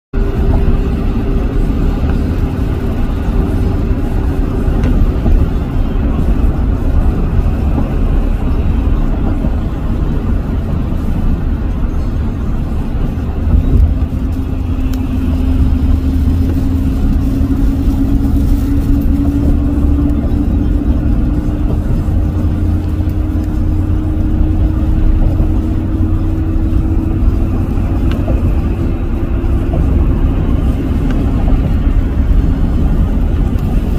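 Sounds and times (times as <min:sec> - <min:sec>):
road and engine rumble: 0:00.1 - 0:33.9.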